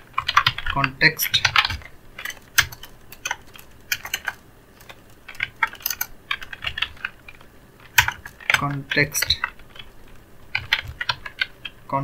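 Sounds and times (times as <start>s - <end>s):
keyboard typing clicks: 0.0s - 11.8s.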